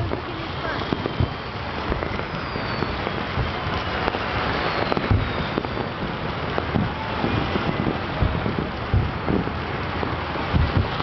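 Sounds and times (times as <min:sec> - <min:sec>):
faint high firework whistles: 0:00.0 - 0:11.0
firecrackers crackling: 0:00.0 - 0:11.0
low firework booms: 0:00.0 - 0:11.0.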